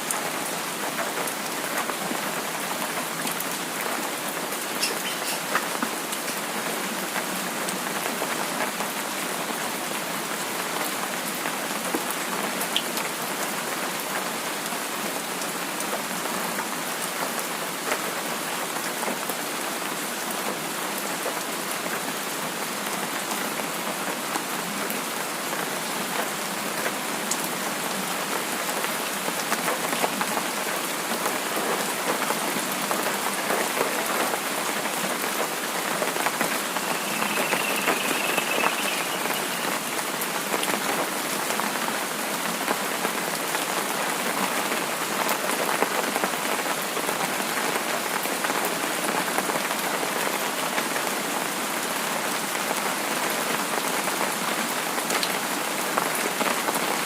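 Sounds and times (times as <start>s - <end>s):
steady rain hissing: 0.0s - 57.0s.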